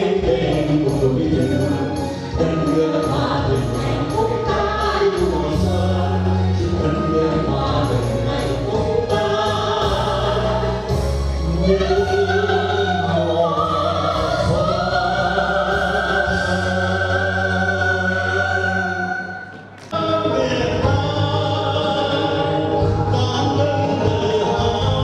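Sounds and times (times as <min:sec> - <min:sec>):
song with instrumental backing: 0:00.0 - 0:25.0.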